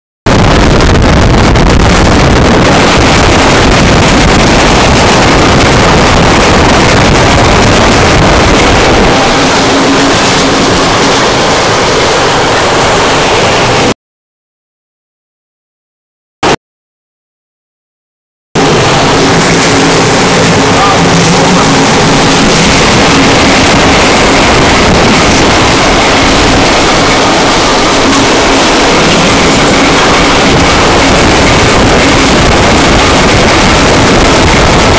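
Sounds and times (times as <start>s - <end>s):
wind on microphone: 0.3s - 13.9s, 18.6s - 34.9s
moving train: 0.3s - 14.0s, 18.6s - 34.9s.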